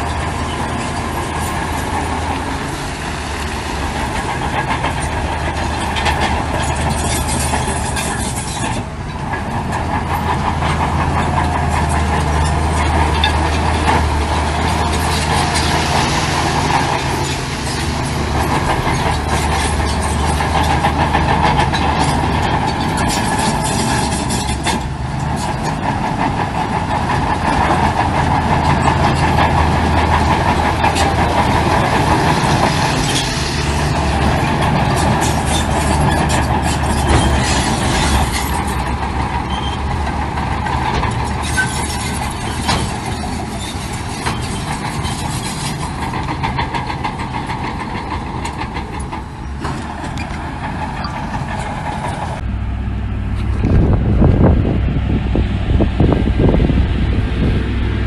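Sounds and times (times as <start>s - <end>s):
heavy diesel machinery droning: 0.0s - 58.0s
machinery clanking and rattling: 0.0s - 58.0s.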